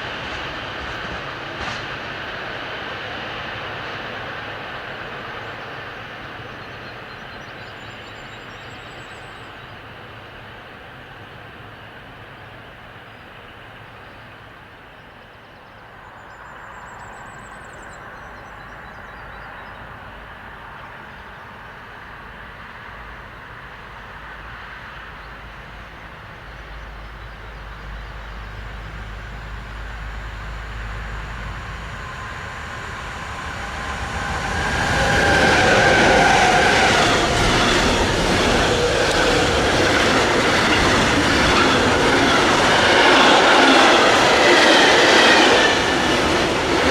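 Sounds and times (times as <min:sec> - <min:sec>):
wheels rumbling on rails: 0:00.0 - 0:12.7, 0:15.9 - 0:46.9
train passing: 0:00.0 - 0:46.9.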